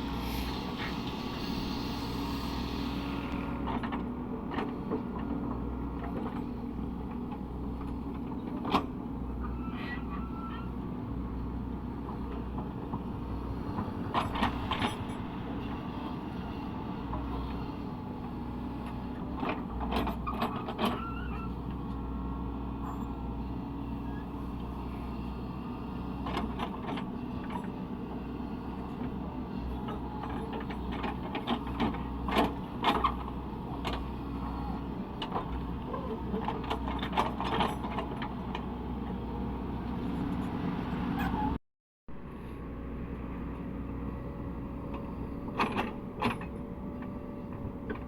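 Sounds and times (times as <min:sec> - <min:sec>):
excavator diesel engine running: 0:00.0 - 0:41.6, 0:42.2 - 0:48.0.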